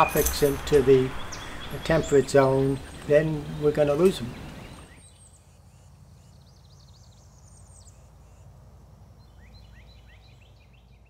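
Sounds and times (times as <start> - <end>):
faint songbirds chirping: 0.0 - 11.0.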